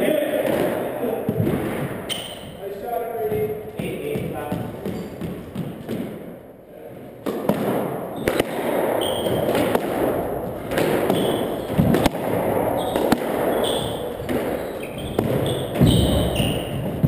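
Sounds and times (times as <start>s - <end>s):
background noise: 0.0s - 17.0s
squash ball striking walls: 0.3s - 17.0s
sneakers squeaking on hardwood: 0.5s - 6.2s, 6.9s - 17.0s.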